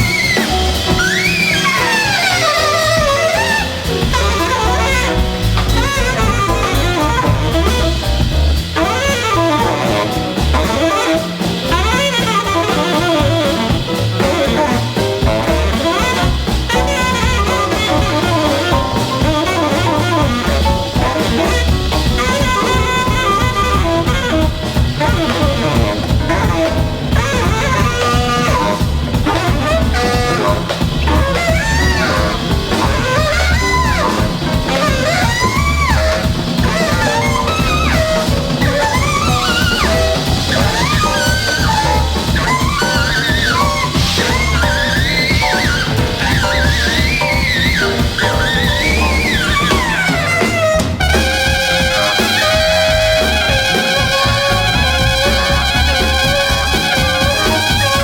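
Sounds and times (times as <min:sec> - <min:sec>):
instrumental tune with low beat: 0:00.0 - 0:58.0.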